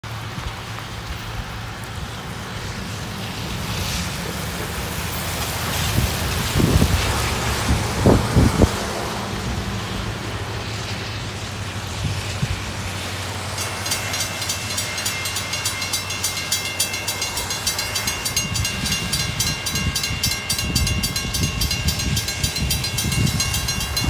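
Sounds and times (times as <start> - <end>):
steady rain: 0.0 - 24.0
truck tyres hissing on wet road: 0.0 - 24.0
wind: 0.0 - 24.0.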